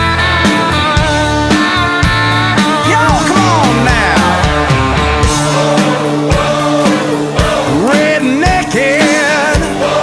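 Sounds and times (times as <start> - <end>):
bass guitar: 0.0 - 10.0
electric guitars: 0.0 - 10.0
steady drum beat: 0.0 - 10.0.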